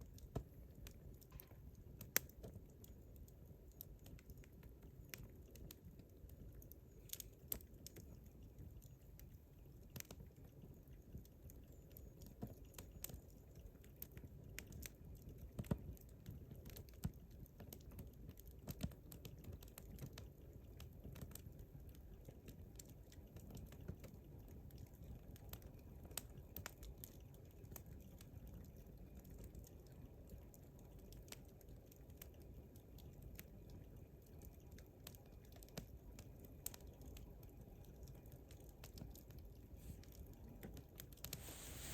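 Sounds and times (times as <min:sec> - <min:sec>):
campfire crackling and popping: 0:00.0 - 0:41.9
low rumble of burning fire: 0:00.0 - 0:41.9.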